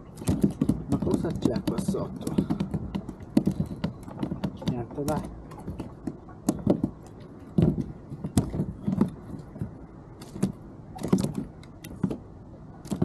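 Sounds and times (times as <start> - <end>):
loud thuds: 0.1 - 13.0
fishing gear knocking on plastic kayak: 0.2 - 12.2.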